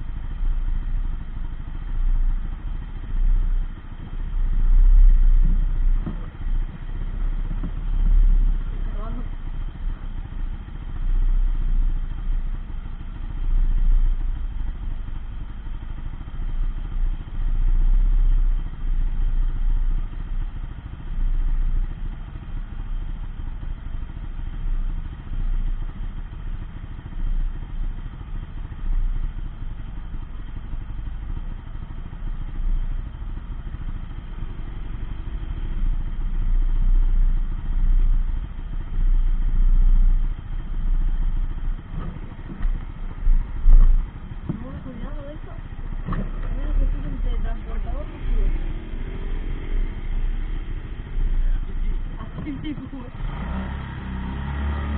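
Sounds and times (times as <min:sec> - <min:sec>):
buggy engine idling: 0:00.0 - 0:54.9.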